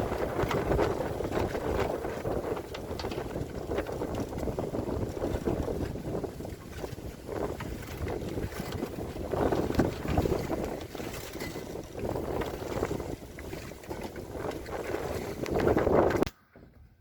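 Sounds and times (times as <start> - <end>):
water washing along hull: 0.0 - 16.3
wind buffeting microphone: 0.0 - 16.8.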